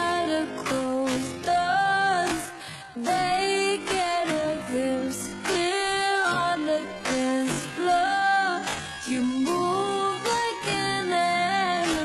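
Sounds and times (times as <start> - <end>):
slowed pop song with woman singing: 0.0 - 12.0.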